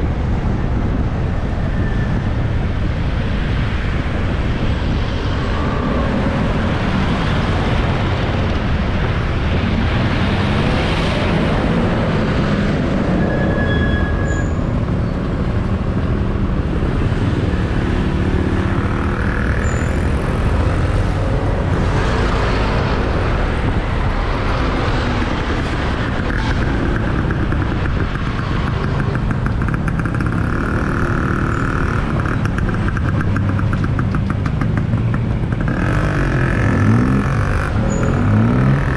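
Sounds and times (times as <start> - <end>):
motorbike engine and road rumble: 0.0 - 38.9
surrounding traffic noise: 0.0 - 38.9.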